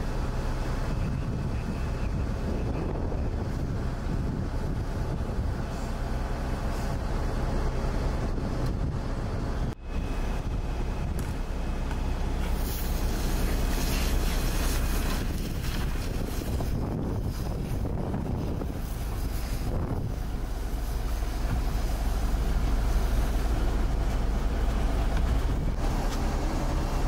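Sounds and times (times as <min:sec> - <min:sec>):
fire engine rumbling: 0:00.0 - 0:27.0
wind buffeting microphone: 0:00.0 - 0:27.0.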